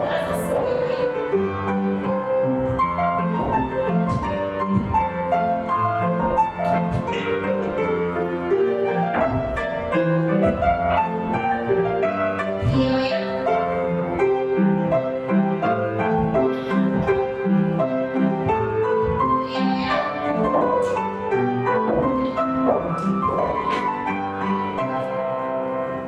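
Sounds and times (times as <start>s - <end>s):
rhythmic piano music: 0.0s - 26.0s.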